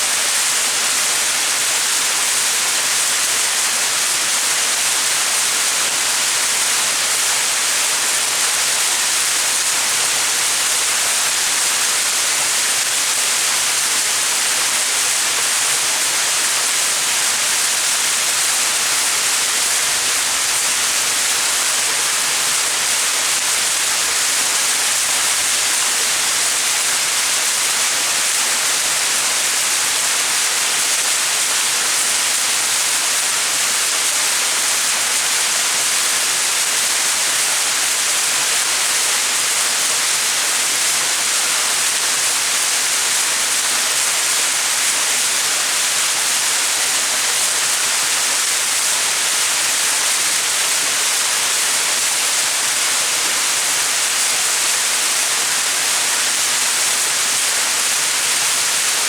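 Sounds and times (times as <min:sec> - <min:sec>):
waterfall splashing: 0:00.1 - 0:59.0.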